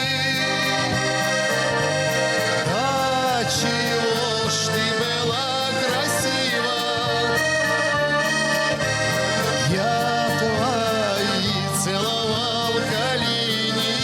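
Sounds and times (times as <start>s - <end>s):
accordion melody: 0.0s - 14.0s.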